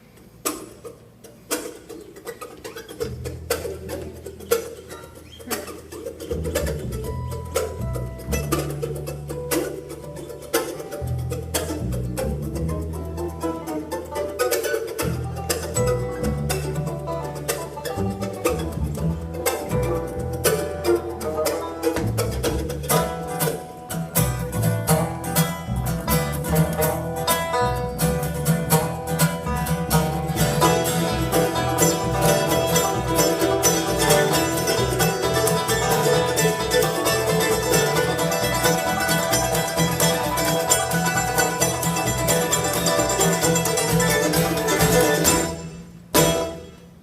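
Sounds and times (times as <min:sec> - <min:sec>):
banjo: 0:00.0 - 0:47.0
bluegrass band playing: 0:00.0 - 0:47.0
guitar: 0:00.0 - 0:47.0.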